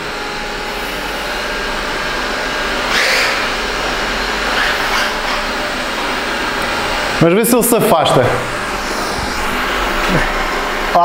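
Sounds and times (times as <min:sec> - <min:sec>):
robot vacuum suction fan rushing: 0:00.0 - 0:11.0.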